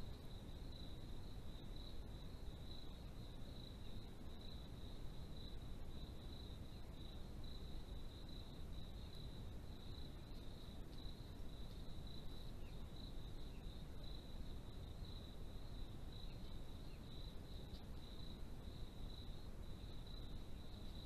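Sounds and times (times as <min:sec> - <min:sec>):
crickets trilling: 0:00.0 - 0:21.0
low background hiss: 0:00.0 - 0:21.0.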